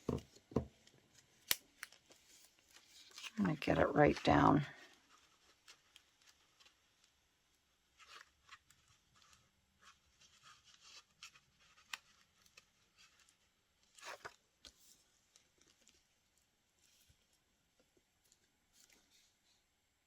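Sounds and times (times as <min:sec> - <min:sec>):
paper rustling and scratching: 0:00.8 - 0:17.5.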